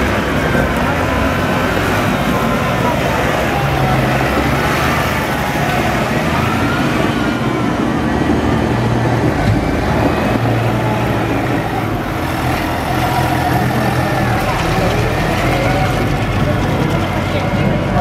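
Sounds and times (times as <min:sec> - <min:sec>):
diesel tractor engines running: 0:00.0 - 0:18.0.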